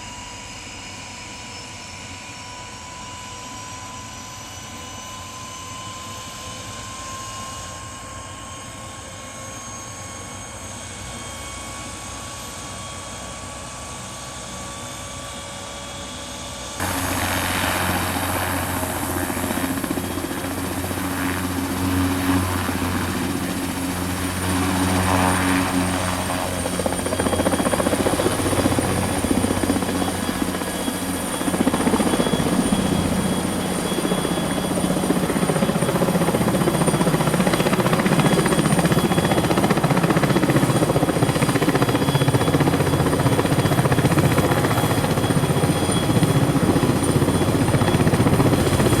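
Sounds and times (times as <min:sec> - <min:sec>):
helicopter engine and rotor hum: 0:00.0 - 0:49.0
helicopter turbine whine: 0:00.0 - 0:49.0.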